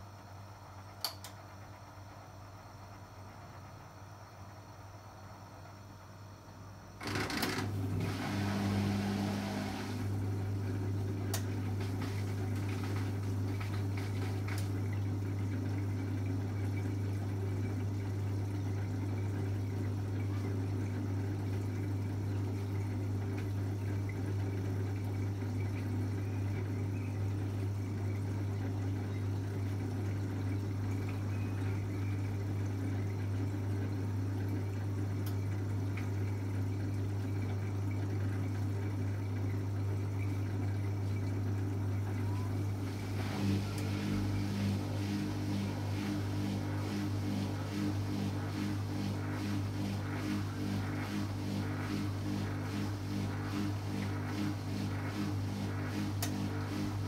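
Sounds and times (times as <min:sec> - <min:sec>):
steady electric hum: 0:00.0 - 0:57.0.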